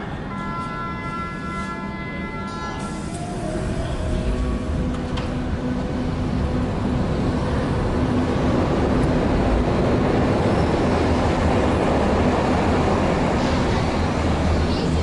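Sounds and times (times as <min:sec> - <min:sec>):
train wheels rumbling on rails: 0:02.5 - 0:15.0.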